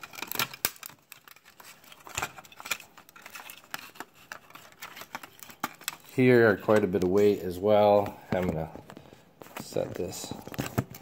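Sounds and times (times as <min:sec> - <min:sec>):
clicks and crackles of wire and plastic: 0:00.0 - 0:11.0.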